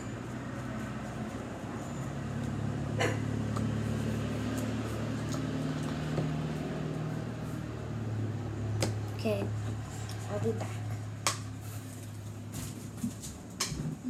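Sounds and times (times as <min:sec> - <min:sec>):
low machine hum: 0:00.0 - 0:12.8.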